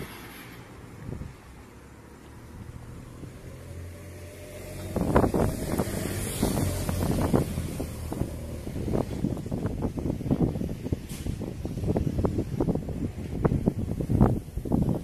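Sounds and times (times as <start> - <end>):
wind buffeting microphone: 0.8 - 1.6, 2.5 - 15.0.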